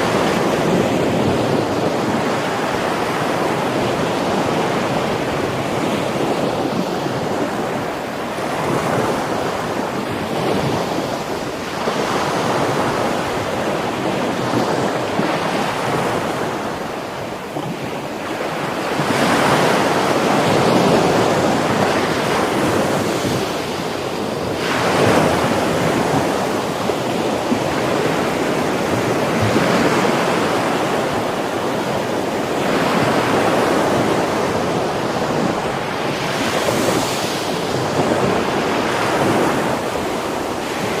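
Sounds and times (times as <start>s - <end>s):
surf breaking on a beach: 0.0s - 41.0s
wind buffeting microphone: 0.0s - 41.0s.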